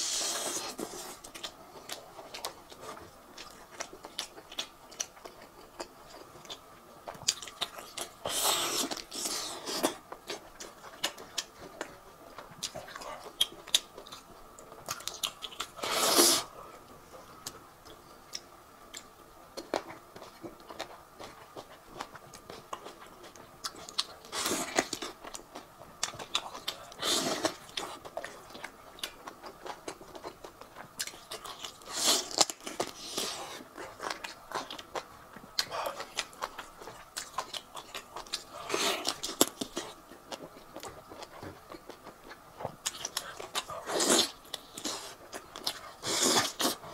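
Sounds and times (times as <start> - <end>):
chewing meat: 0.2 - 46.9.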